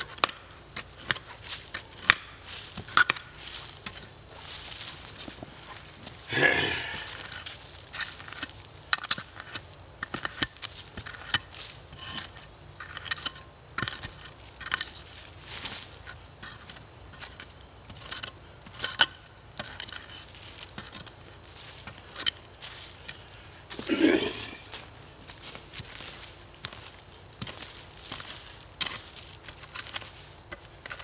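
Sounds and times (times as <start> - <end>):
dirt crunching and scraping: 0.0 - 31.0
mattock striking soil and roots: 0.0 - 31.0.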